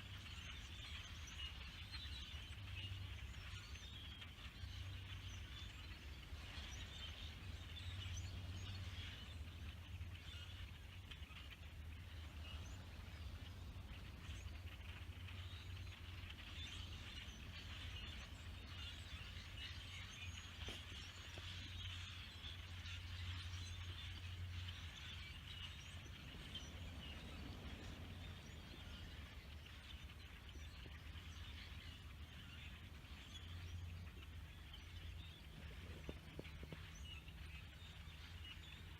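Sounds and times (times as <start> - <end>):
flock of birds chirping: 0.0 - 38.9
steady low hum: 0.0 - 38.9.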